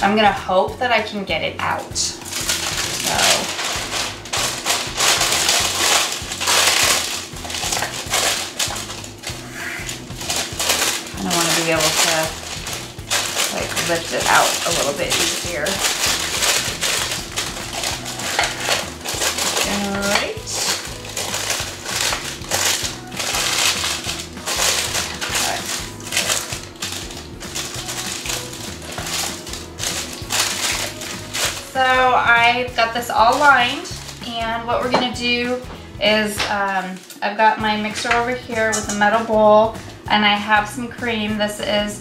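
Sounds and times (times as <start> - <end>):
background music: 0.0 - 42.0
wax paper crinkling: 1.6 - 34.4, 36.3 - 37.4.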